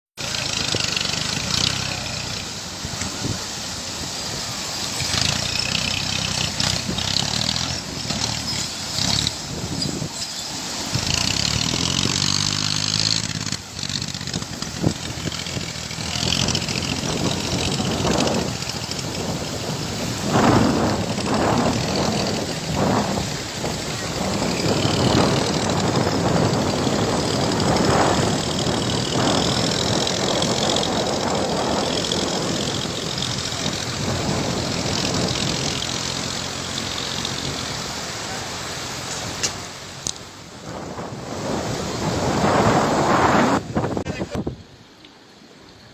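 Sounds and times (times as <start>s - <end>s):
tractor engine revving: 0.2s - 44.2s
rushes of noise: 0.2s - 44.8s.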